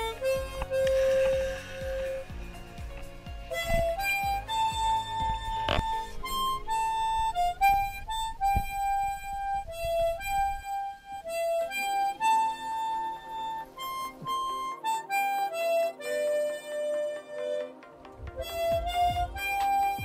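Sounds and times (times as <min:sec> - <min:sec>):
reedy wind instrument melody: 0:00.0 - 0:20.0.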